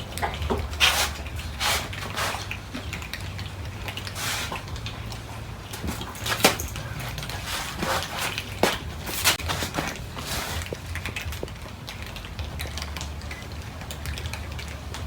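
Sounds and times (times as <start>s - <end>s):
cats eating: 0.0s - 15.0s
low steady hum: 0.0s - 15.0s.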